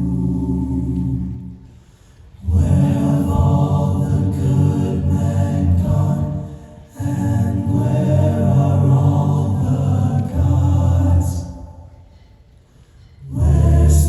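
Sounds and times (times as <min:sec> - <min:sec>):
vocal group singing chords: 0:00.0 - 0:12.3, 0:13.1 - 0:14.0.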